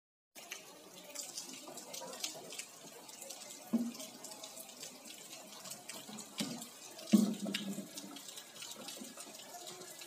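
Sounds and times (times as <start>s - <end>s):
steady rain falling: 0.4s - 10.0s.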